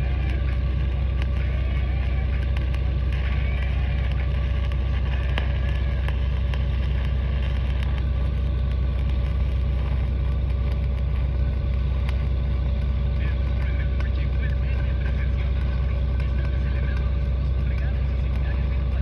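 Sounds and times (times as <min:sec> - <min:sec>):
engine droning: 0:00.0 - 0:19.0
welding arc crackling: 0:00.0 - 0:19.0.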